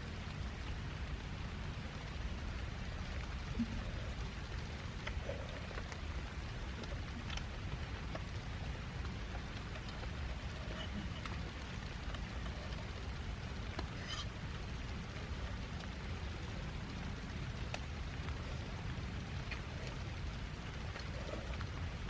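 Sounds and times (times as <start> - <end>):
heavy rain falling: 0.0 - 22.0
raindrops tapping close by: 0.0 - 22.0.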